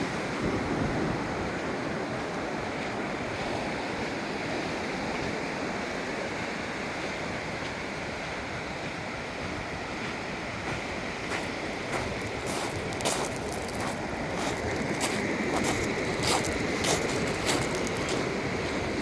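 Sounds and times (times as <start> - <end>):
surf washing on beach: 0.0 - 19.0
wind: 0.0 - 19.0.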